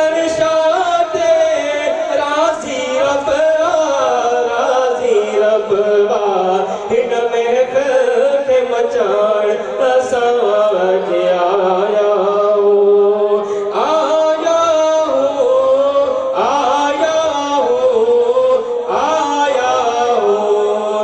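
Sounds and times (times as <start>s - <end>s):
man singing a devotional chant: 0.0s - 21.0s.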